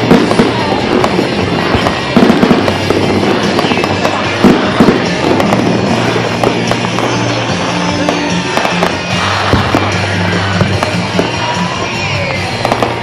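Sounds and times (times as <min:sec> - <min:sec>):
fireworks bangs and crackles: 0:00.0 - 0:13.0
music: 0:00.0 - 0:13.0.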